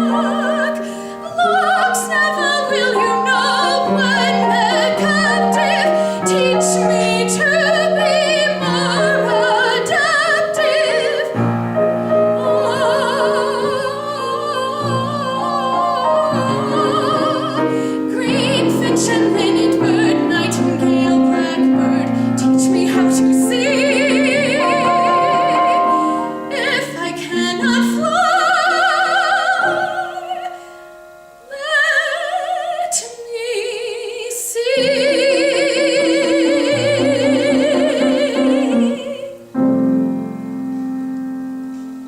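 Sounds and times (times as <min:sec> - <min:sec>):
woman singing: 0:00.0 - 0:30.8, 0:31.4 - 0:39.8
piano accompaniment: 0:00.0 - 0:33.5, 0:34.6 - 0:42.0.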